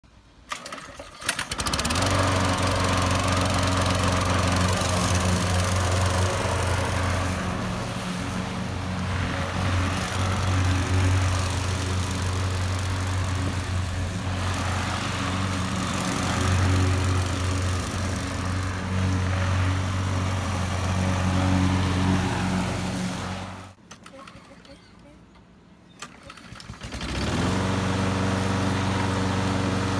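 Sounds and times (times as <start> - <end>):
lawn mower engine running: 0.5 - 24.4, 26.0 - 29.9.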